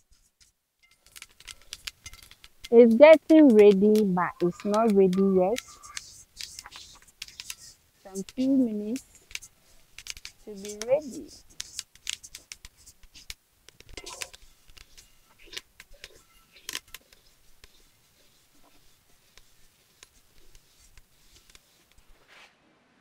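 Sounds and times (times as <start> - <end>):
seeds rustling in a pot: 0.0 - 22.4.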